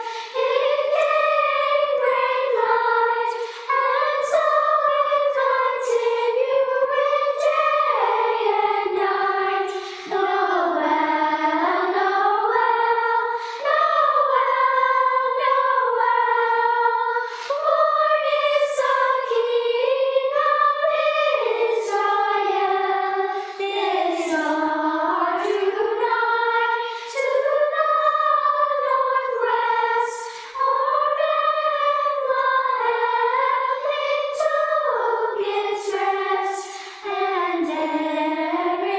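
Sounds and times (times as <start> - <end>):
youth choir singing: 0.0 - 38.9.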